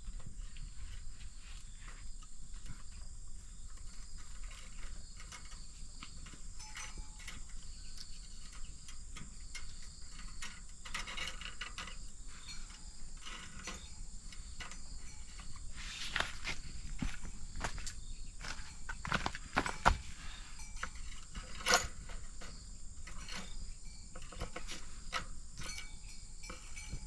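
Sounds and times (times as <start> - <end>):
clicks and rustling scrapes: 0.0 - 27.0
high insect drone: 0.0 - 27.0.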